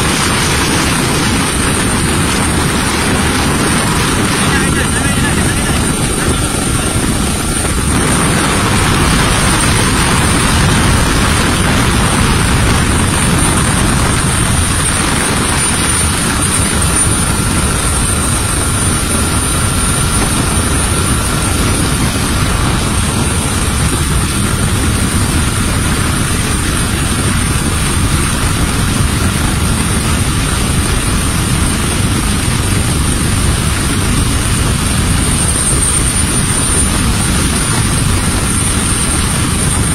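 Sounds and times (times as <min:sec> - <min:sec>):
helicopter rotor and engine: 0:00.0 - 0:39.9
thin high whine: 0:00.0 - 0:39.9.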